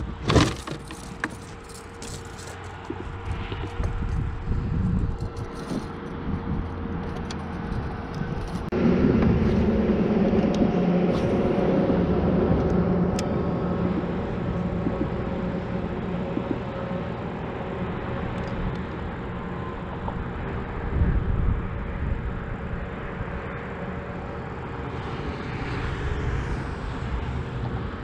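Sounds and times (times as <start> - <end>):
motor hum: 0.0 - 26.6.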